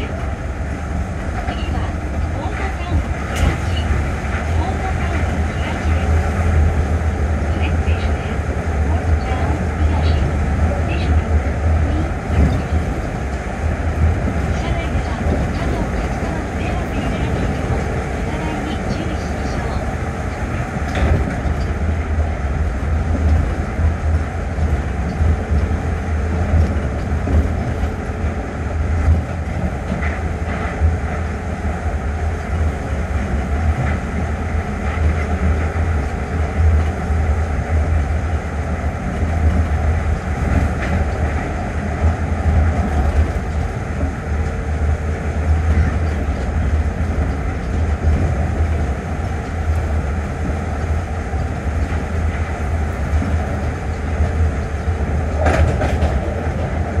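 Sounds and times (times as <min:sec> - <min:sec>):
tyres rumbling on guideway: 0:00.0 - 0:57.0.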